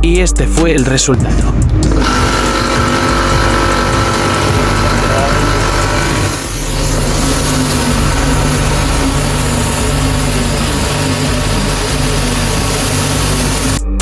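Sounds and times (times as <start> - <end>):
pressure washer running: 1.2 - 14.0.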